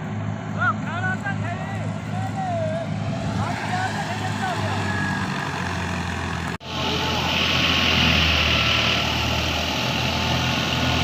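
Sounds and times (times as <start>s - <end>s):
farm machine engine running: 0.0s - 11.0s.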